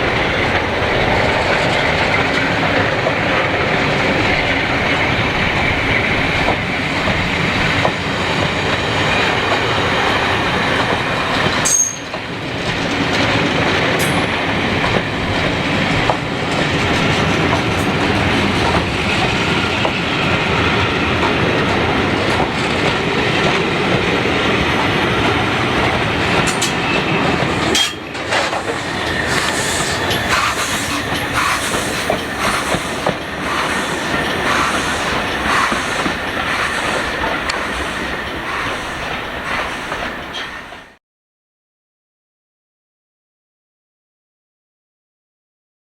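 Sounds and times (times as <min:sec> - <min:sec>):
train wheels on rails: 0:00.0 - 0:41.0.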